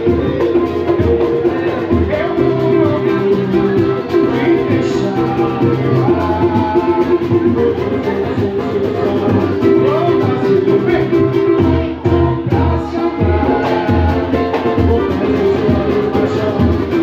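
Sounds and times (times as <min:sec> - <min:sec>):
samba music with singing: 0:00.0 - 0:17.0.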